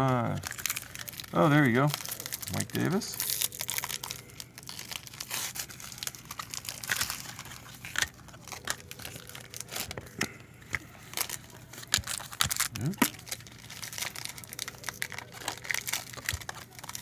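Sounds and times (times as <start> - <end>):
wrappers crinkling: 0.0 - 17.0.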